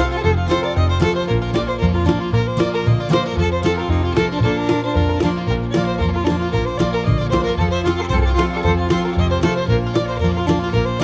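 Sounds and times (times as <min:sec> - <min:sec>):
bluegrass fiddle and guitar music: 0:00.0 - 0:11.0.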